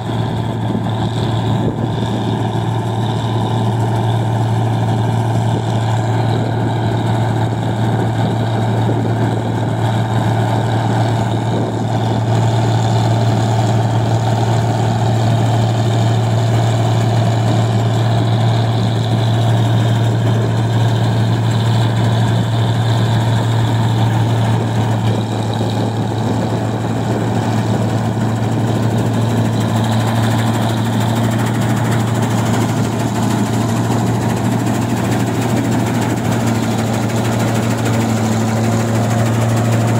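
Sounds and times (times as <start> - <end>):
combine harvester engine drone: 0.0 - 39.9
threshing machinery clatter: 0.0 - 39.9.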